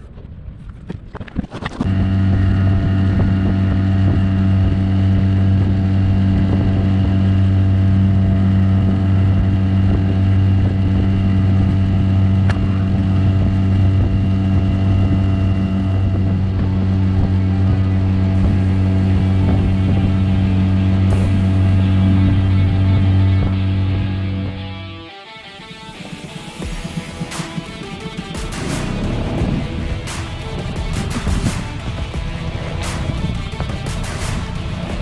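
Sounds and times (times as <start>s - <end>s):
outboard motor running: 1.8s - 25.0s, 26.0s - 35.0s.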